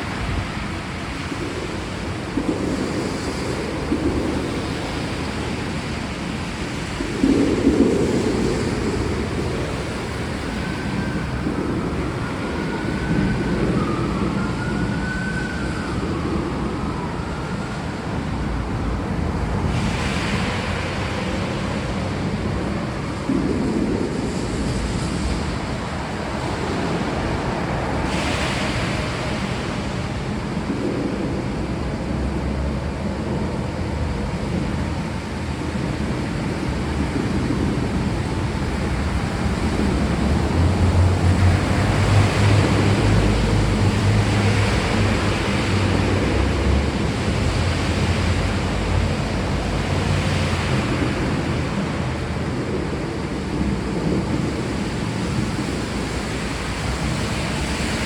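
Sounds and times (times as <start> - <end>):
rain hissing: 0.0 - 58.0
thunder rumble: 0.0 - 58.0.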